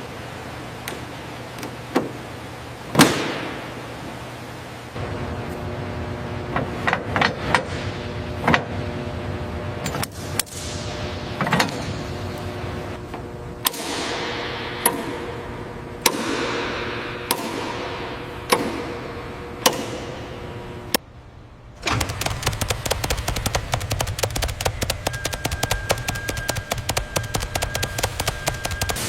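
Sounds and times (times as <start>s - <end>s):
machinery hum: 0.0s - 29.0s.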